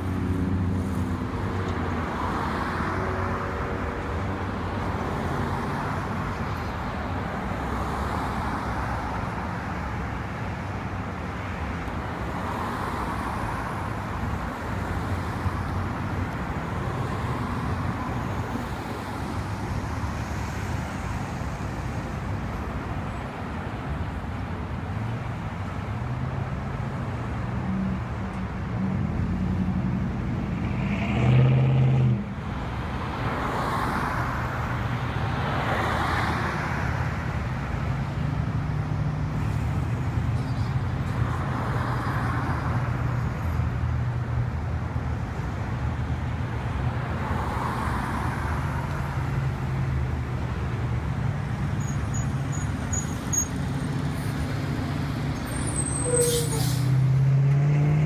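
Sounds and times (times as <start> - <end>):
cars and trucks driving slowly: 0.0 - 58.0.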